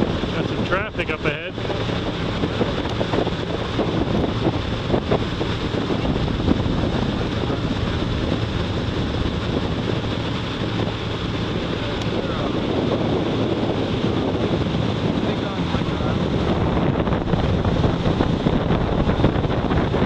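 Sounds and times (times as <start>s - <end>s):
motorboat engine running: 0.0s - 20.0s
wind buffeting microphone: 0.0s - 20.0s.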